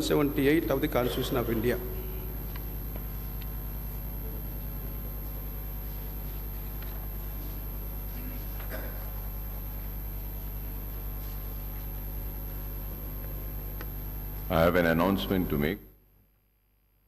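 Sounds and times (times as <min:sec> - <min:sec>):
low microphone hum: 0:00.0 - 0:16.1.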